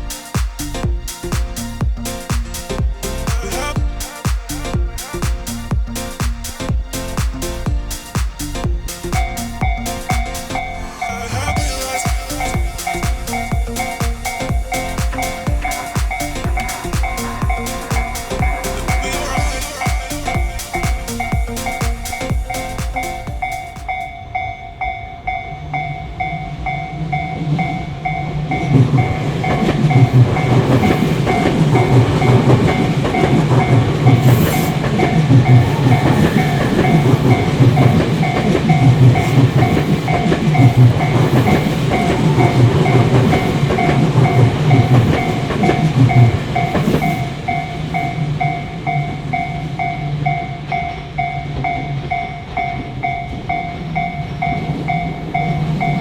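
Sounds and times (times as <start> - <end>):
train rumble and clacking wheels: 0.0 - 24.6, 25.2 - 56.0
level crossing warning bell: 9.1 - 56.0.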